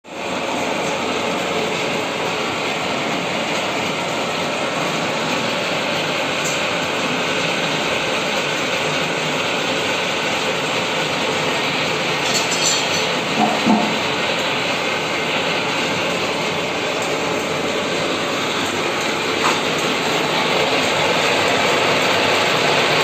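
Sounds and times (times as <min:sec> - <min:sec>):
milling machine running: 0:00.1 - 0:23.0.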